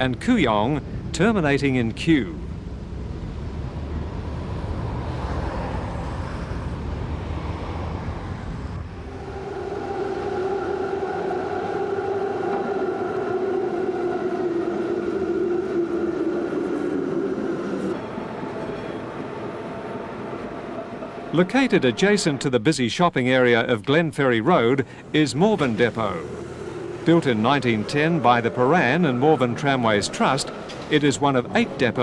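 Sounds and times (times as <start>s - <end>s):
road traffic rumble: 0.0s - 32.0s
tram motors whining: 0.0s - 32.0s.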